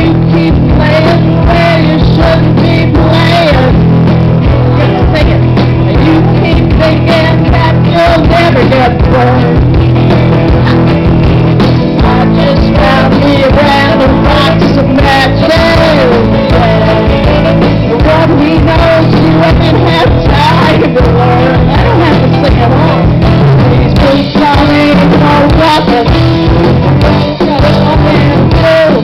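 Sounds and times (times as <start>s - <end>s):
live rock band playing loudly: 0.0s - 29.0s.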